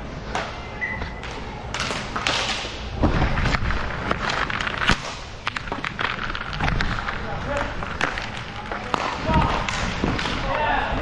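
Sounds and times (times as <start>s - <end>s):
hockey sticks hitting puck: 0.2s - 11.0s
skates scraping ice: 1.2s - 11.0s.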